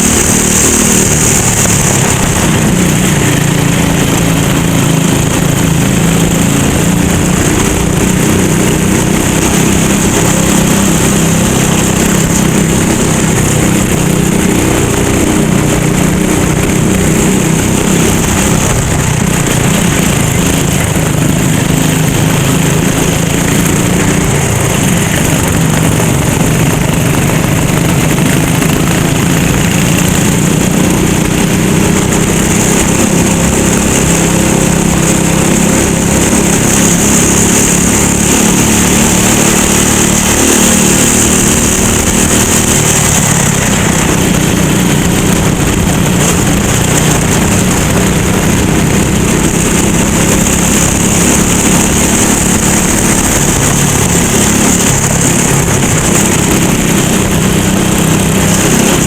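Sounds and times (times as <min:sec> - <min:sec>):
kart engine racing: 0:00.0 - 0:59.0.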